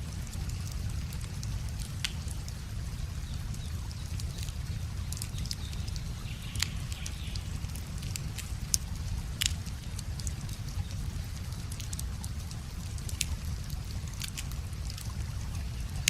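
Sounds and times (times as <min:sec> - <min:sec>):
steady low rumble: 0:00.0 - 0:16.0
bonfire pops and snaps: 0:00.3 - 0:02.6, 0:04.2 - 0:16.0.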